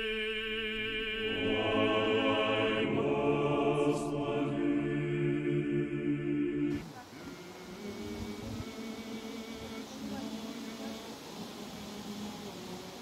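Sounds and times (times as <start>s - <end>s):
choir singing a cappella chant: 0.0s - 13.0s.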